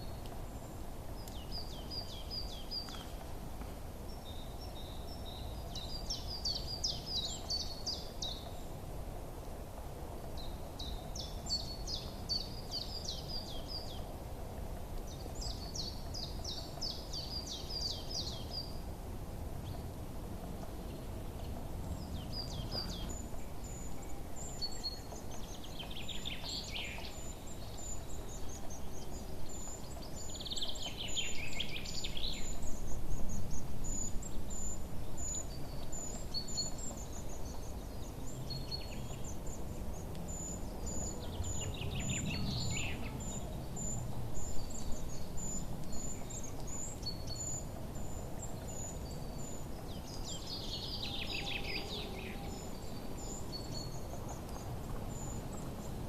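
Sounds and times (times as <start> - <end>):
low background noise: 0.0 - 56.0.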